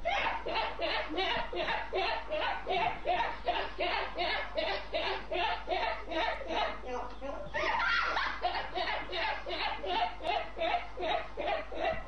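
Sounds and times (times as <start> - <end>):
young woman laughing hard: 0.0 - 6.9, 7.6 - 12.0.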